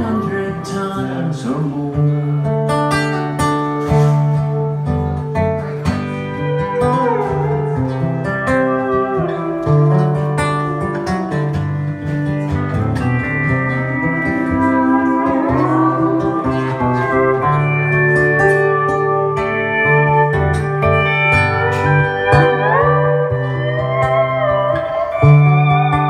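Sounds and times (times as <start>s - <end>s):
pedal steel guitar melody: 0.0s - 26.0s
strummed acoustic guitar chords: 0.0s - 26.0s.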